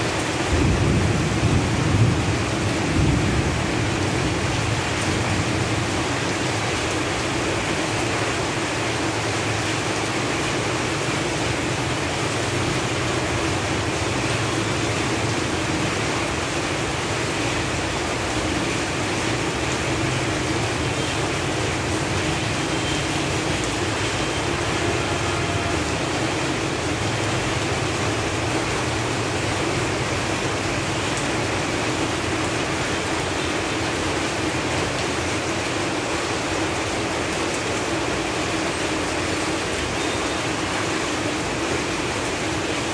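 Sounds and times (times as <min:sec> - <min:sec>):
rain falling on leaves: 0:00.0 - 0:42.9.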